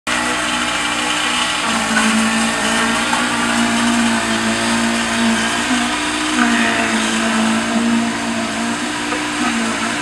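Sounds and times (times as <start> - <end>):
concrete mixer truck humming: 0.1 - 10.0.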